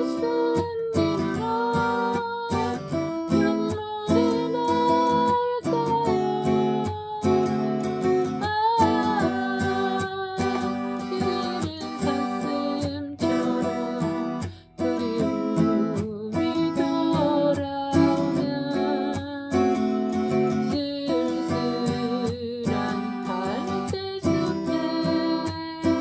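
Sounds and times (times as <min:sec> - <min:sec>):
acoustic guitar strummed and plucked: 0:00.0 - 0:26.0.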